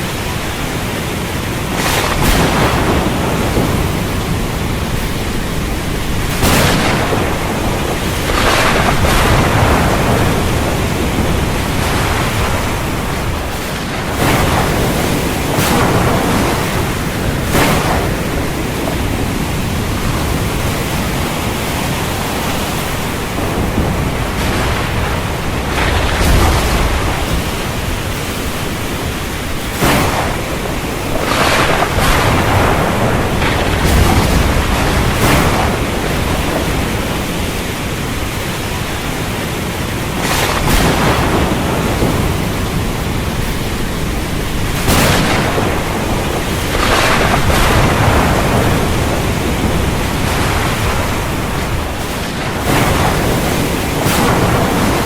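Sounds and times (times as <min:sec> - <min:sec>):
storm wind: 0:00.0 - 0:55.0
surf: 0:00.0 - 0:55.0.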